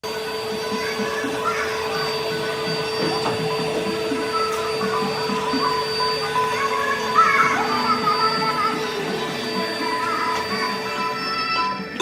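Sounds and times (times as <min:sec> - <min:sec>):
workshop machinery humming: 0:00.0 - 0:12.0.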